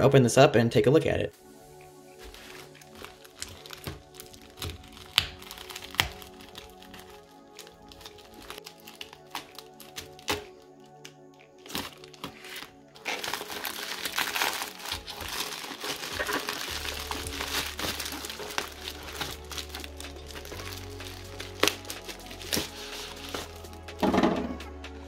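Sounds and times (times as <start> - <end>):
background music: 0.0 - 25.0
plastic bag crinkling: 2.1 - 24.0
knife slitting plastic bag: 2.2 - 10.6, 11.6 - 23.8.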